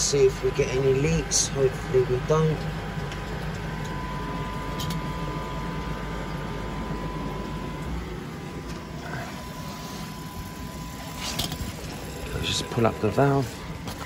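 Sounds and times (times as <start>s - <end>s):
pump motor humming: 0.0s - 14.0s.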